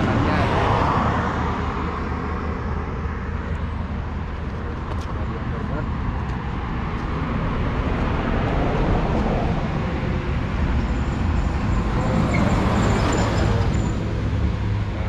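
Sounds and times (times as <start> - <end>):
road traffic noise: 0.0 - 15.0
vehicle engine rumbling: 0.0 - 15.0.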